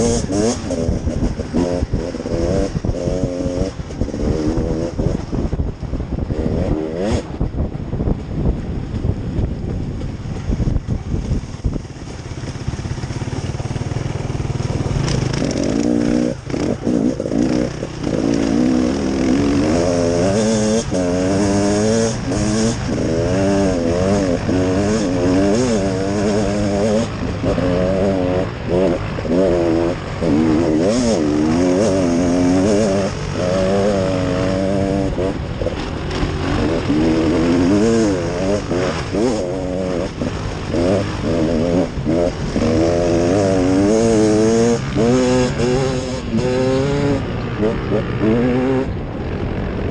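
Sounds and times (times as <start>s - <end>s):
small engine revving: 0.0s - 5.3s, 12.4s - 49.0s.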